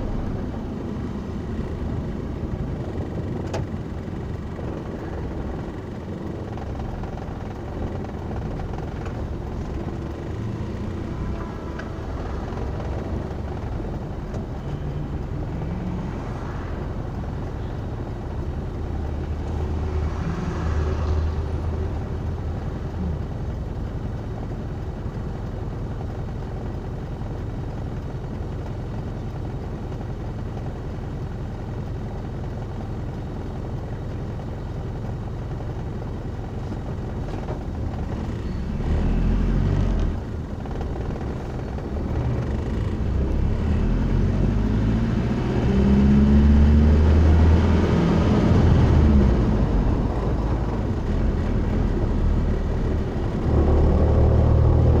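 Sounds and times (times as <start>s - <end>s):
road rumble: 0.0s - 55.0s
vehicle engine: 0.0s - 55.0s.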